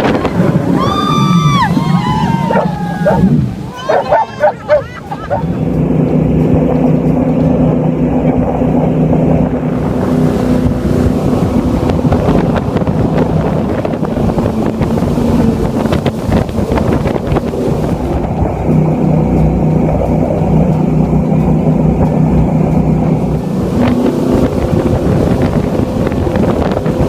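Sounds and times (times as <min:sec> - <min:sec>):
jet boat engine running: 0:00.0 - 0:27.0
rush of wind and water: 0:00.0 - 0:27.0
wind buffeting microphone: 0:00.0 - 0:27.0.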